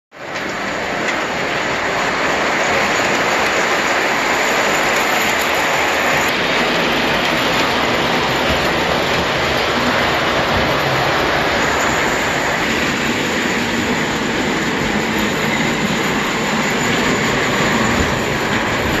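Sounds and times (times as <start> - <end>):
toy electric train running: 0.2 - 19.0.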